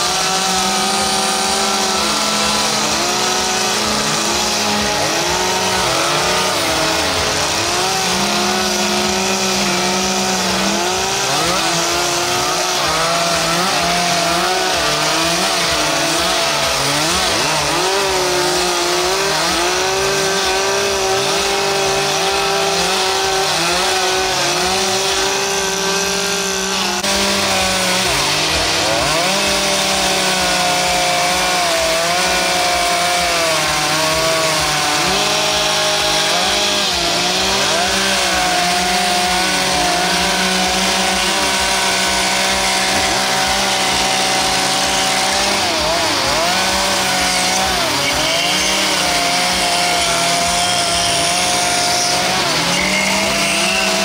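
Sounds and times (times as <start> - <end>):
chainsaws revving cutting wood: 0.0 - 54.0.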